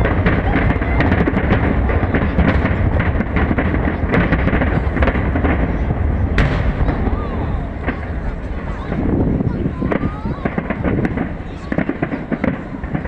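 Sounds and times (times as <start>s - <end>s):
fireworks rumbling and cracking: 0.0s - 13.0s
sharp firework bang: 0.0s - 13.0s.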